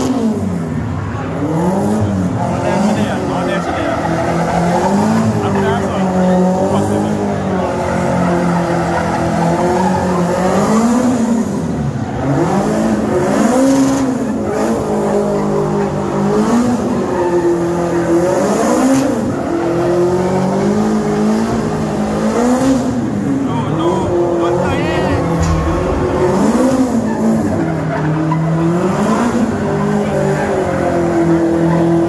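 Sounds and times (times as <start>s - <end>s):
tyres skidding on asphalt: 0.0s - 25.4s, 26.4s - 32.0s
car engine revving: 3.9s - 32.0s.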